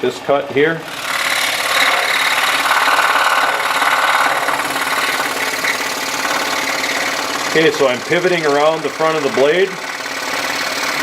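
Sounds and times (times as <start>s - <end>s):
scroll saw cutting wood: 0.8s - 11.0s.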